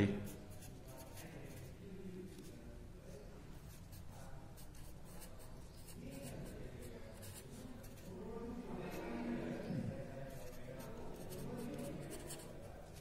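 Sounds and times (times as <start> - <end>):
pen scratching on paper: 0.3 - 2.5, 3.6 - 8.2, 8.8 - 13.0.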